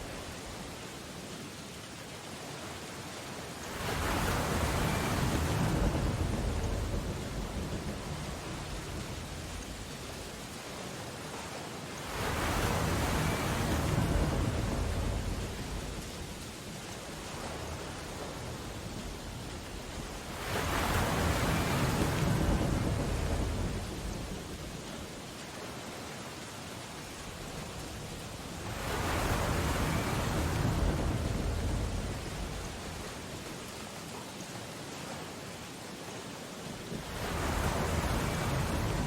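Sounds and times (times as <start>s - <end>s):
heavy waves crashing: 0.0s - 39.0s
ocean surf: 0.0s - 39.0s.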